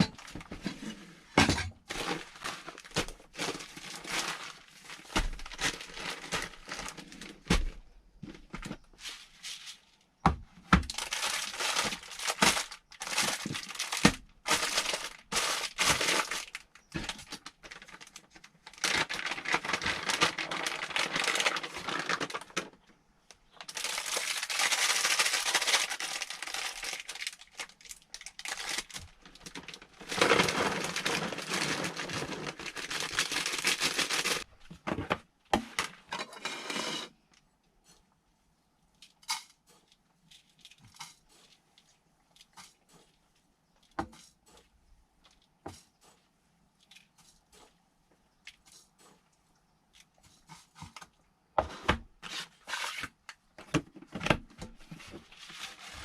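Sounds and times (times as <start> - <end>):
crinkling rustling handling noise: 0.0 - 10.2, 10.8 - 38.2, 38.9 - 51.3, 52.0 - 56.0.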